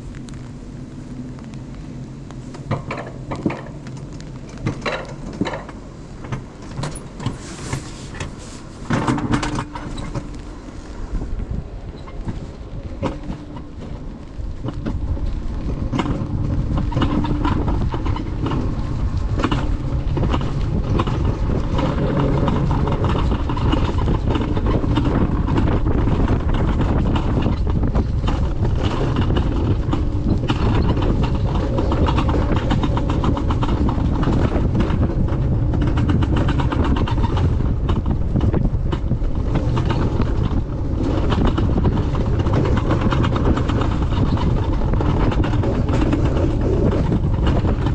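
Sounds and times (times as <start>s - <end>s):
coaster sled rumbling: 0.0s - 47.9s
wheels rattling on rails: 0.0s - 47.9s.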